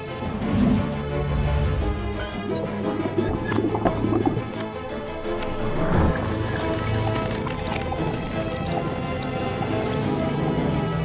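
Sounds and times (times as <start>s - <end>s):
cinematic intro music: 0.0s - 11.0s.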